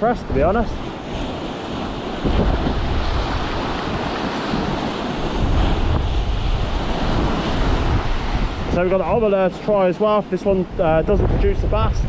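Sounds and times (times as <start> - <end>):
waves breaking: 0.0 - 12.0
wind buffeting microphone: 0.0 - 12.0.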